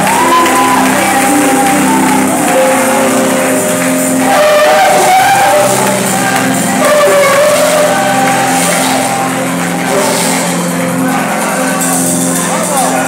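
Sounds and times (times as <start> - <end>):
gospel choir singing: 0.0 - 13.0
instrumental accompaniment: 0.0 - 13.0.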